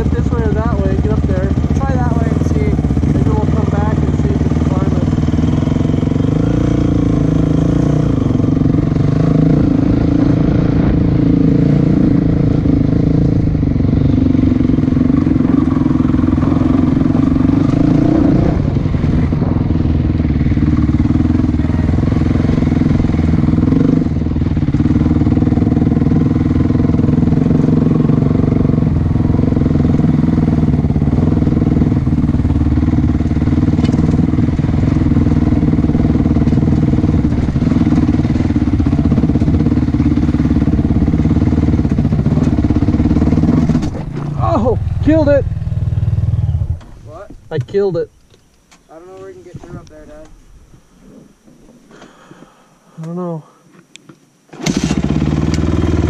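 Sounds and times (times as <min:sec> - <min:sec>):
small vehicle engine running: 0:00.0 - 0:47.0, 0:54.5 - 0:56.0.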